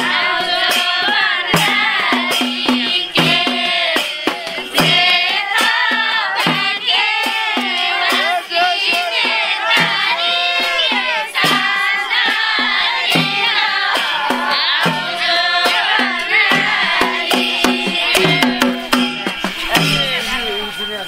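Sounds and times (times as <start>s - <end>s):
hand drum beat: 0.0s - 20.8s
voices singing: 0.0s - 21.0s.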